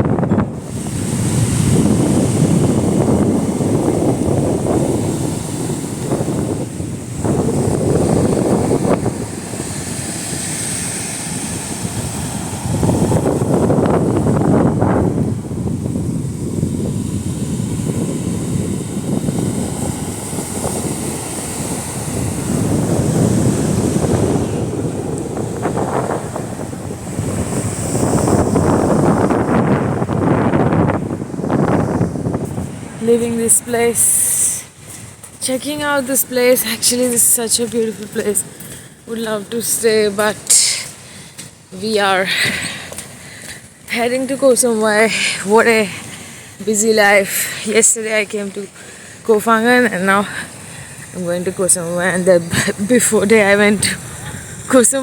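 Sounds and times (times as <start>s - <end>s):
gusty wind on microphone: 0.0s - 55.0s.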